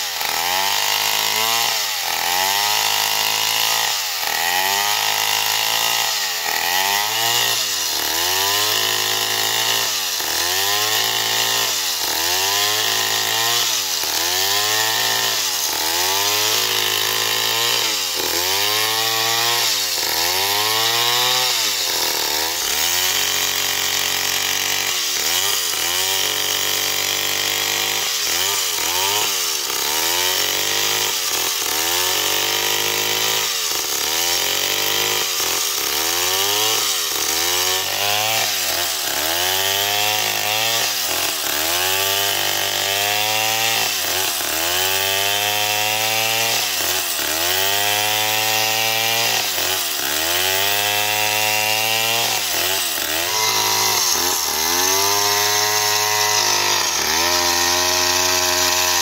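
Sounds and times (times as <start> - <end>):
chainsaw ripping a log: 0.0 - 59.0.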